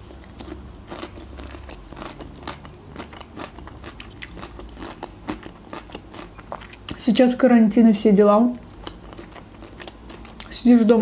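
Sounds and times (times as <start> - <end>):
chewing crunchy pickle: 0.0 - 7.1, 8.6 - 10.7.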